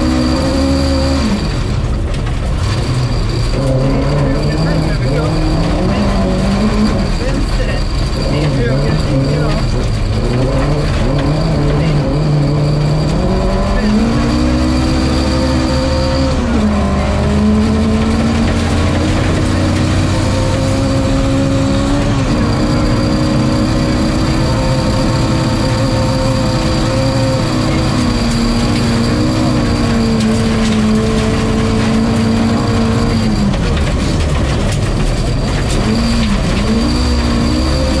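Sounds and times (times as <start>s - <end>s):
gravel road noise: 0.0s - 38.0s
rally car engine from inside: 0.0s - 38.0s.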